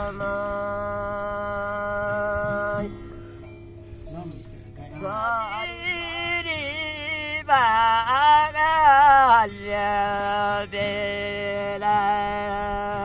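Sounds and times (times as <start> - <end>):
man singing: 0.0 - 3.2, 4.9 - 13.0.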